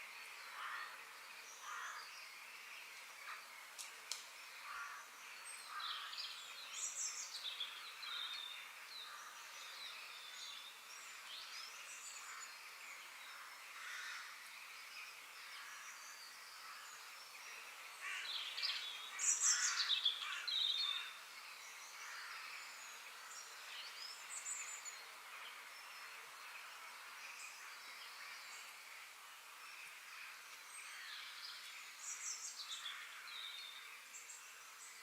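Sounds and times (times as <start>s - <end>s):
songbirds chirping and warbling: 0.0s - 35.0s
steady background hiss: 0.0s - 35.0s.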